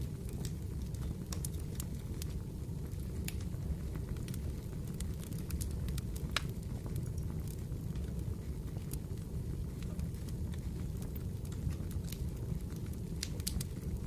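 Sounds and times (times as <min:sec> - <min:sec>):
fireplace crackling: 0:00.0 - 0:14.0
steady low rumble: 0:00.0 - 0:14.0.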